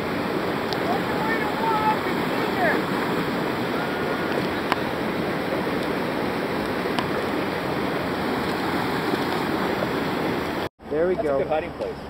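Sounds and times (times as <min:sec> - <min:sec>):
river whitewater rushing: 0:00.0 - 0:10.7.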